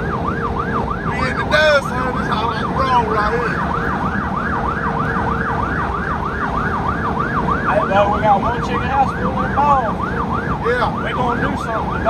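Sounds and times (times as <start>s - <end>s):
low road rumble: 0.0s - 12.0s
siren yelping: 0.0s - 12.0s.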